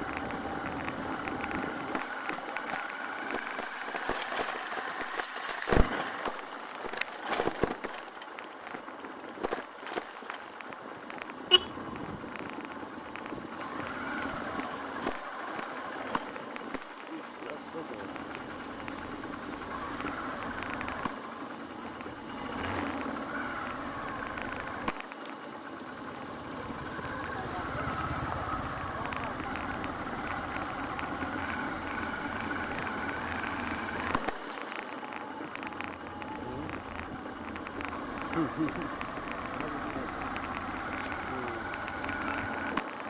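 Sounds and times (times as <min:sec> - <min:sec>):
motorcycle riding on rough path: 0:00.0 - 0:43.0.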